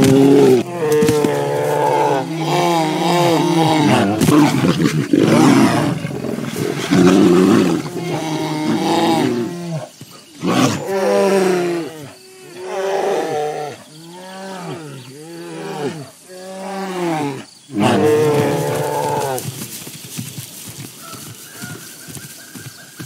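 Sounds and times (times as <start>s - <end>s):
bears growling and roaring: 0.0s - 19.4s.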